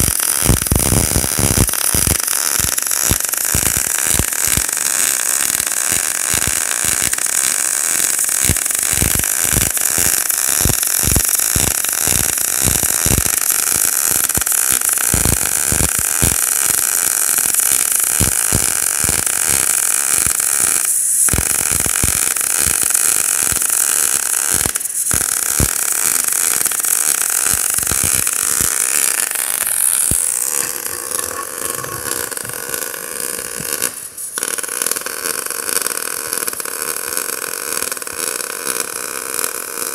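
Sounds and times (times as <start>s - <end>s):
welding arc hissing and crackling: 0.0s - 39.9s.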